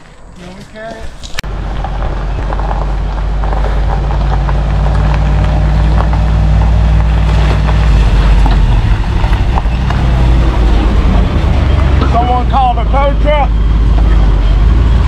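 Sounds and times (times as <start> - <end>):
truck engine running: 1.4 - 15.0.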